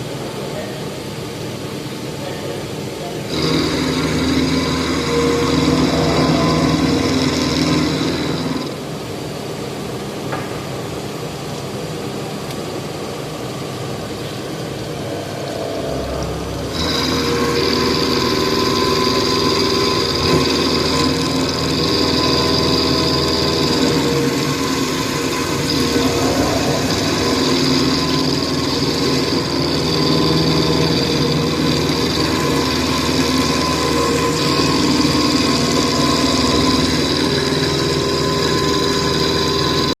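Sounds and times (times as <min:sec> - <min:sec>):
milling machine whine: 0:00.0 - 0:40.0.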